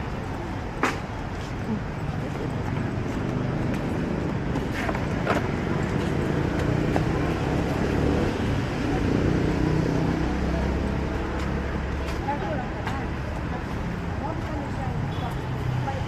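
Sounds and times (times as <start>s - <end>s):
road noise: 0.0s - 16.0s
vehicle engines running: 0.0s - 16.0s.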